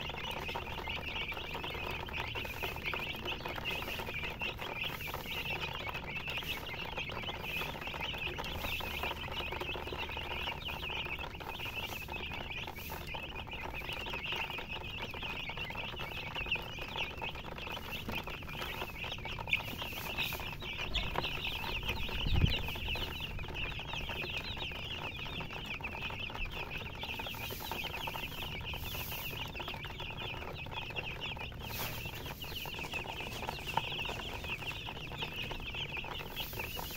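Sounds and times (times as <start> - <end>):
baby chicks peeping: 0.0 - 36.9.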